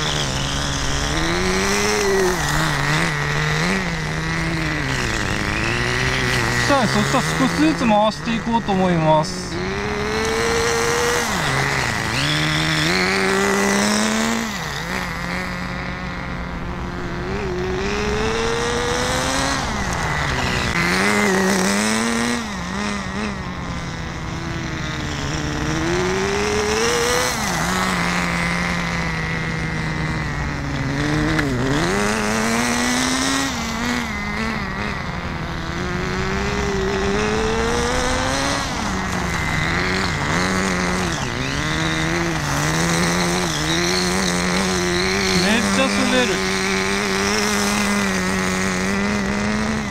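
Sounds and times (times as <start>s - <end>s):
small nitro engine revving: 0.0s - 49.9s.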